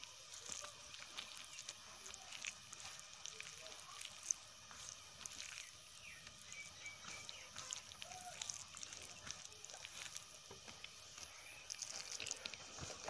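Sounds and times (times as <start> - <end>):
soft wet squishes: 0.0 - 13.0.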